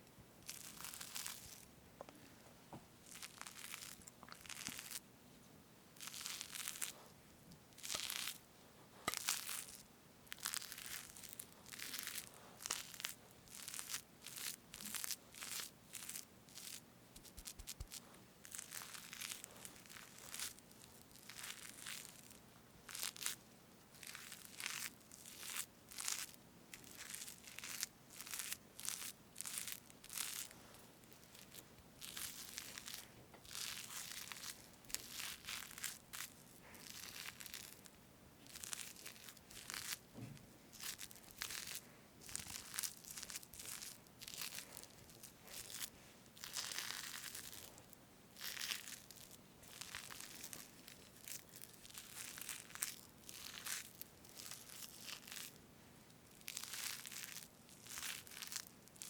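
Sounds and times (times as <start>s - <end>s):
soft squishy cream swishes: 0.0s - 5.1s, 6.0s - 59.0s.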